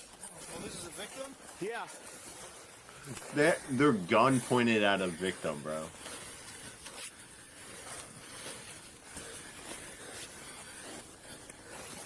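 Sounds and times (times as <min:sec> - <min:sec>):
soft rustling: 0:00.0 - 0:12.0.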